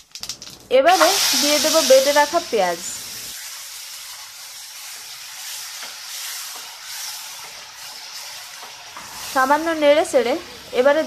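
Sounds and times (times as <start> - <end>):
onion paste sizzling in hot oil: 0.9 - 11.0.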